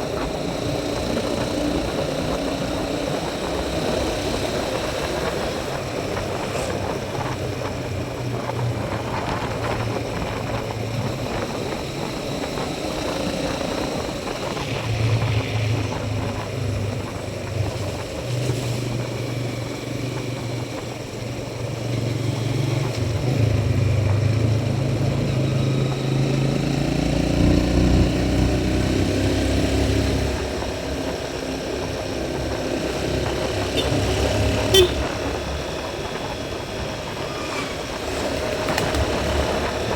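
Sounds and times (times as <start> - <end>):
motorcycle engine: 0.0 - 39.9
road noise: 0.0 - 39.9.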